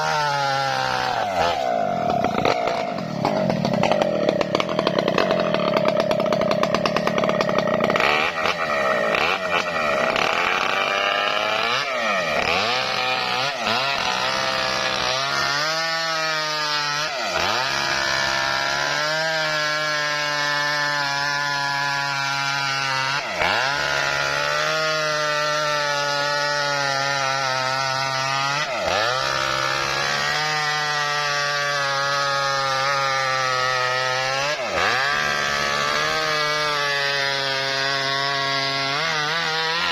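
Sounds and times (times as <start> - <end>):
engine-driven saw cutting wood: 0.0 - 39.9.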